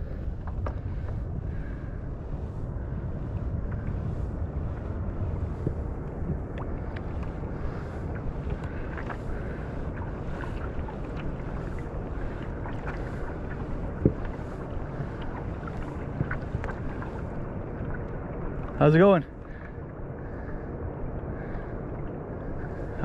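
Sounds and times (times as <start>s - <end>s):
water noise around kayak: 0.0s - 23.0s
wind: 0.0s - 23.0s.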